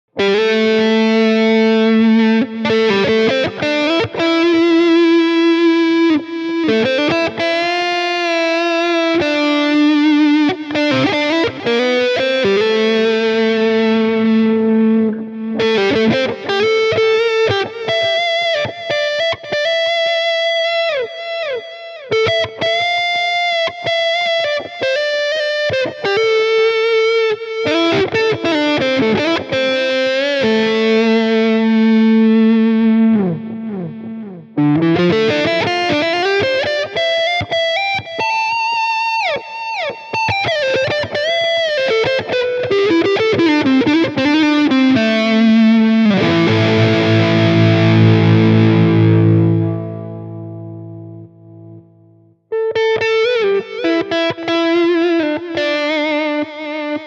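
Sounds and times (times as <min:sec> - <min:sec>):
electric guitar solo: 0:00.1 - 0:57.0.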